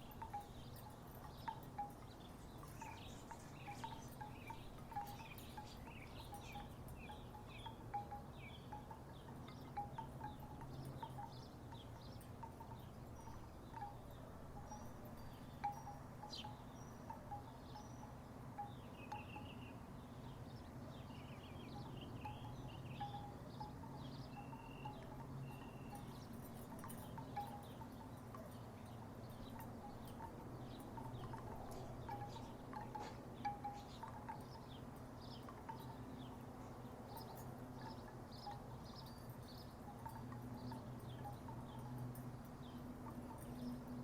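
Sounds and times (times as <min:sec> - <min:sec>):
wooden wind chimes clacking: 0:00.0 - 0:44.0.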